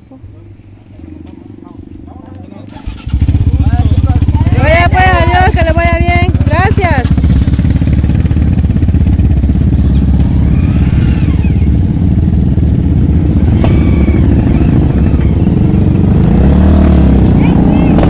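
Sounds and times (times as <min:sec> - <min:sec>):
motorcycle engines idling: 0:00.0 - 0:18.0.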